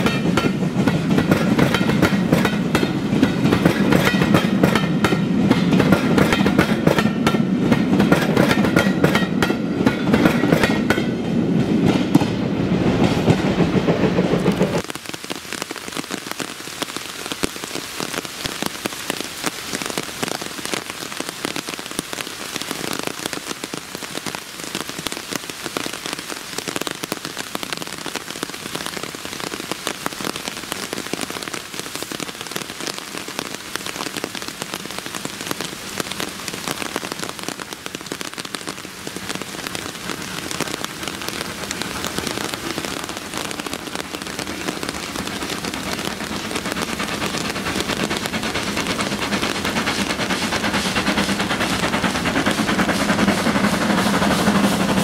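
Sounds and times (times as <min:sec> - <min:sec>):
steam locomotive approaching: 0:00.0 - 0:17.4, 0:18.0 - 0:55.0
steady rain falling: 0:00.0 - 0:55.0.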